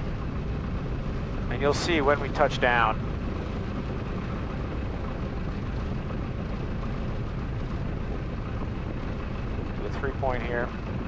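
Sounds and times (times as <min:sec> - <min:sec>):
aircraft engine idling drone: 0:00.0 - 0:11.0.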